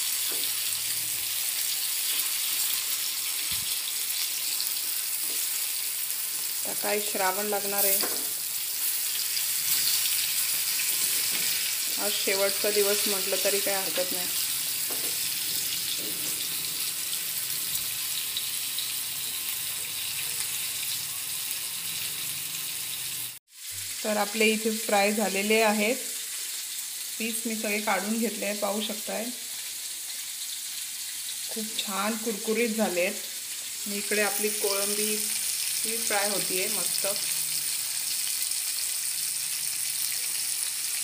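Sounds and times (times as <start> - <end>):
fish sizzling in oil: 0.0 - 41.0.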